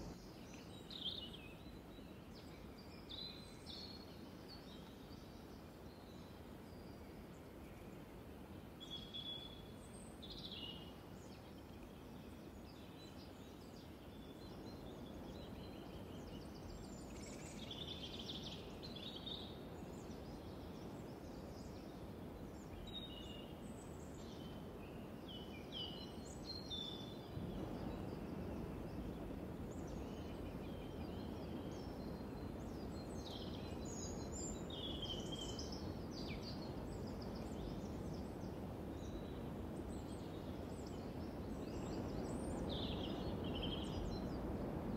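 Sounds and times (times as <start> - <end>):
low outdoor background noise: 0.0 - 44.9
small birds chirping: 8.8 - 44.9.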